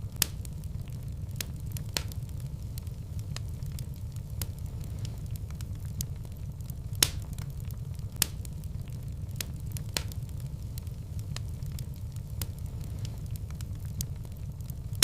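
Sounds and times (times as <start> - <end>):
fire crackling and popping: 0.0 - 15.0
fire flames roaring: 0.0 - 15.0.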